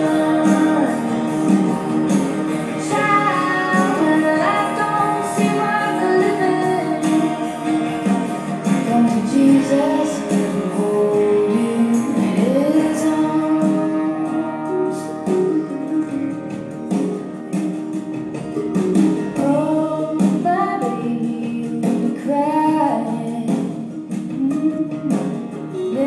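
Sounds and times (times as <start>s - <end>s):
woman singing: 0.0s - 16.5s, 19.3s - 26.0s
instrumental music: 0.0s - 26.0s.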